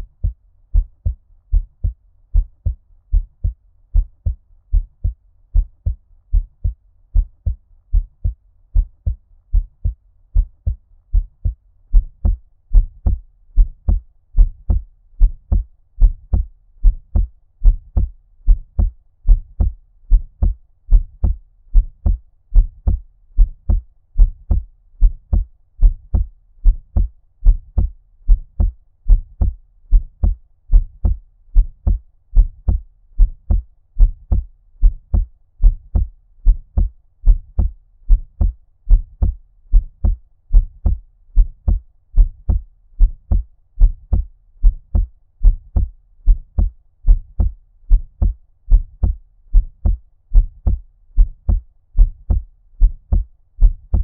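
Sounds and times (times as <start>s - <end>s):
muffled heartbeat: 0.0s - 54.0s.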